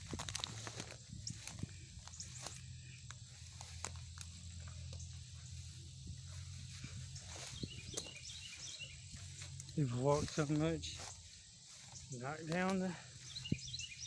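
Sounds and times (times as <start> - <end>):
footsteps on dirt trail: 0.0 - 14.0
chirps: 1.1 - 14.0.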